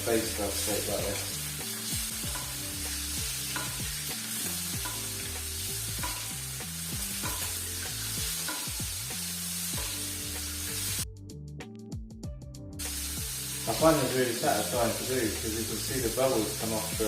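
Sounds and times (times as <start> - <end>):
steak sizzling in butter: 0.0 - 11.0, 12.8 - 17.0.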